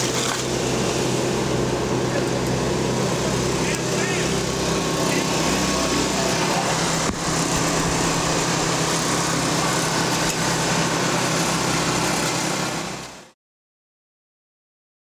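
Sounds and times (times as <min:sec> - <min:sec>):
engine drone with hiss: 0:00.0 - 0:13.4.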